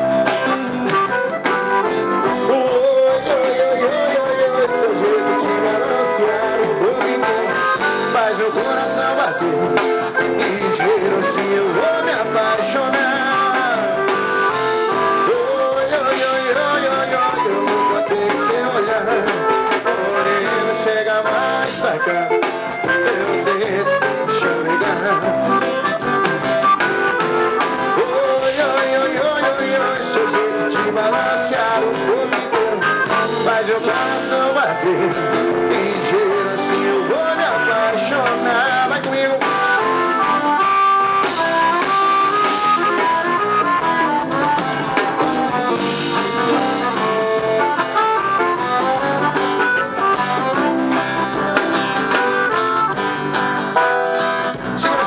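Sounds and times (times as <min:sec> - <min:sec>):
live band playing dance music: 0:00.0 - 0:55.0.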